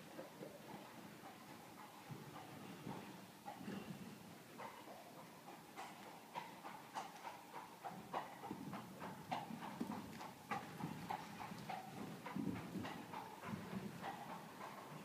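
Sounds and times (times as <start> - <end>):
horse hoofbeats cantering: 0.0 - 15.0.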